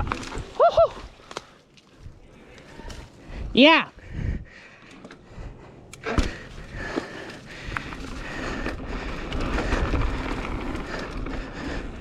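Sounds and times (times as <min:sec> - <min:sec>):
bike tyres on dirt trail: 0:00.0 - 0:12.0.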